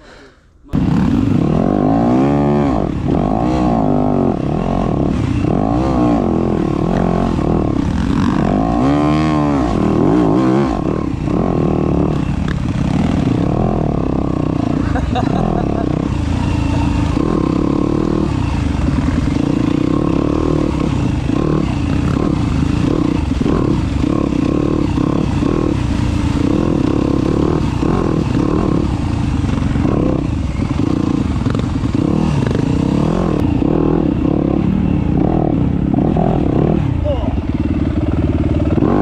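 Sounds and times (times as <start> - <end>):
dirt bike motor: 0.6 - 39.0.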